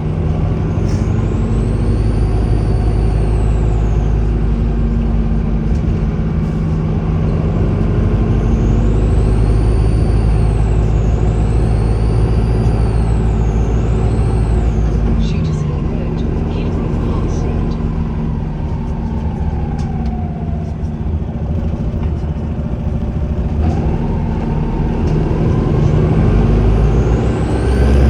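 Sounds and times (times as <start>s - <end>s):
bus diesel engine running: 0.0s - 28.0s
turbocharger whistling: 0.6s - 5.8s, 6.8s - 28.0s.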